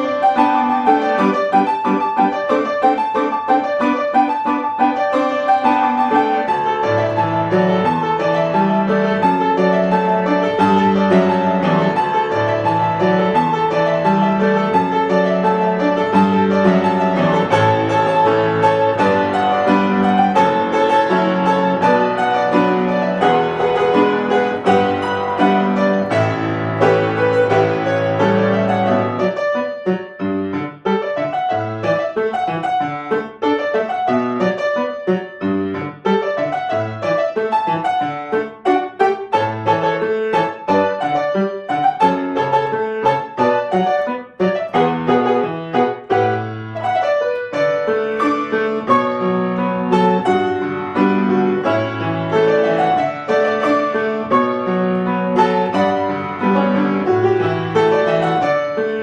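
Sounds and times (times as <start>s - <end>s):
solo piano playing: 0.0s - 59.0s.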